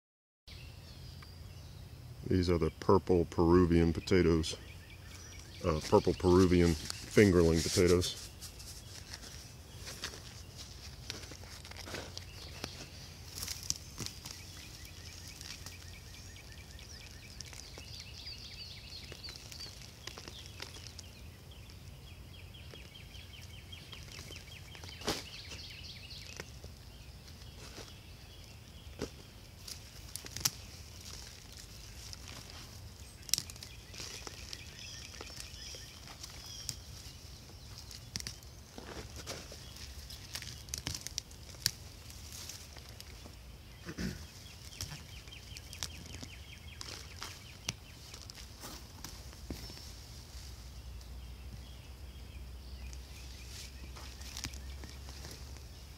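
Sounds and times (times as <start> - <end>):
small birds chirping: 0.5 - 55.9
plant leaves rustling and snapping: 5.0 - 55.9.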